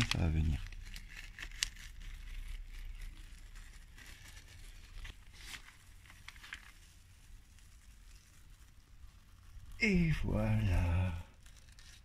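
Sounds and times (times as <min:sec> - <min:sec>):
paper crinkling: 0:00.0 - 0:12.0
skin tearing softly: 0:00.0 - 0:12.0.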